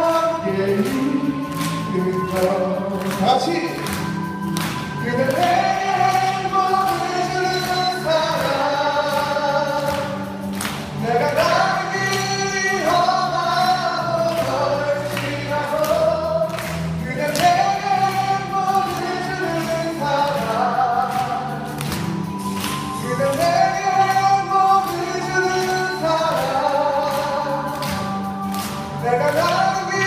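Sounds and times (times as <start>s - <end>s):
man singing into a microphone: 0.0s - 21.9s, 22.9s - 30.0s
backing accompaniment: 0.0s - 30.0s.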